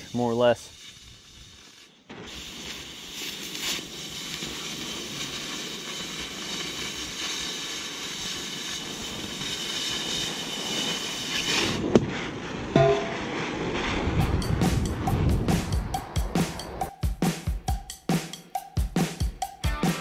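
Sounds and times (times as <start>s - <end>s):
cutting torch hissing: 0.0s - 16.9s.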